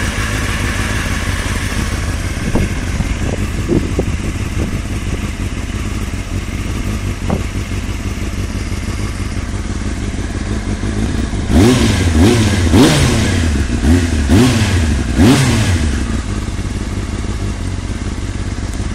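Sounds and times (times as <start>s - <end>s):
motorcycle engine idling and revving: 0.0s - 18.9s.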